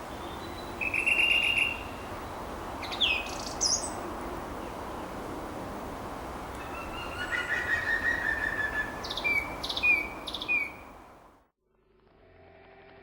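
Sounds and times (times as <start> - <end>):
steady background hiss: 0.0 - 11.4.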